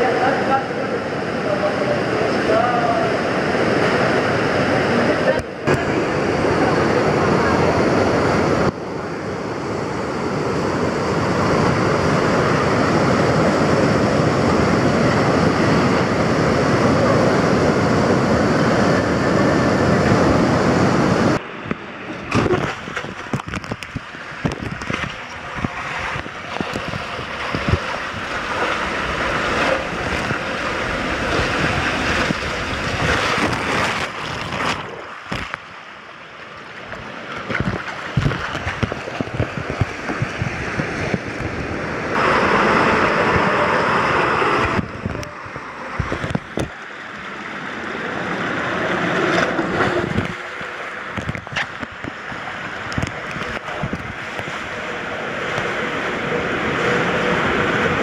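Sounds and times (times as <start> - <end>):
fountain water rushing: 0.0 - 58.0
water splashing and sloshing: 0.0 - 58.0.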